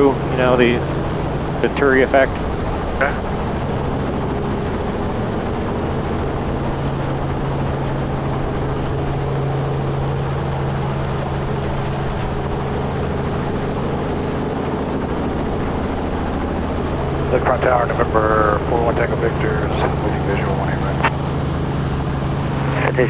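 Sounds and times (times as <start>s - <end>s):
helicopter engine and rotor: 0.0s - 23.0s.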